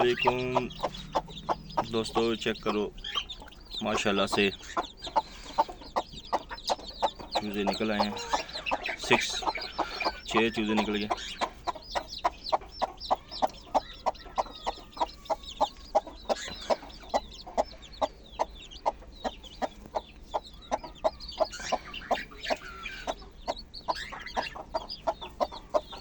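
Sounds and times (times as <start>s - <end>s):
chicks peeping: 0.0s - 26.0s
hen clucking: 0.0s - 26.0s.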